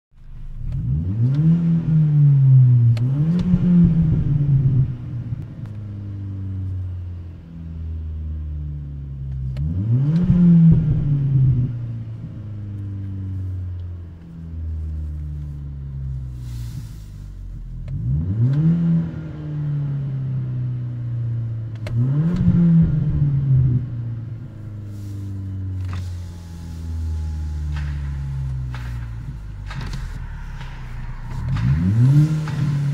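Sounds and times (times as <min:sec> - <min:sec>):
car engine idling and revving: 0:00.1 - 0:32.9.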